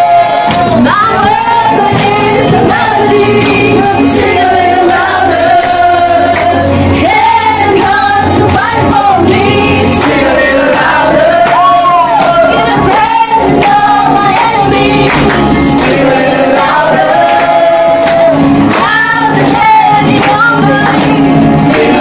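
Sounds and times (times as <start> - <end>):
group of people singing: 0.0 - 22.0
musical accompaniment: 0.0 - 22.0.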